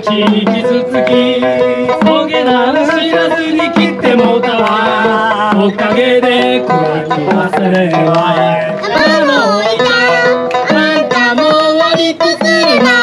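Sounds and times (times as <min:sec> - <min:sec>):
hand percussion beat: 0:00.0 - 0:13.0
man singing: 0:00.0 - 0:13.0
plucked lute: 0:00.0 - 0:13.0.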